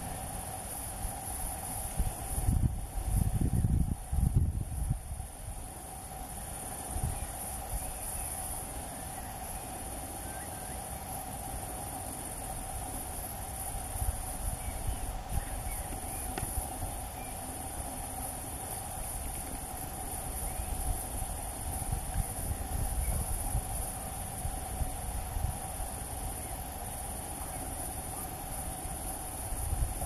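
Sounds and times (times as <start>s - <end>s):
insects singing: 0.0s - 30.0s.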